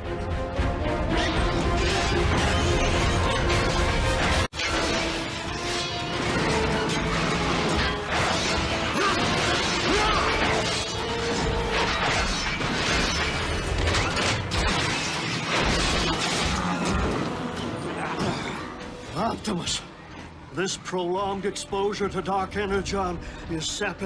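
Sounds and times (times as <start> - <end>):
dramatic background music: 0.0 - 24.0.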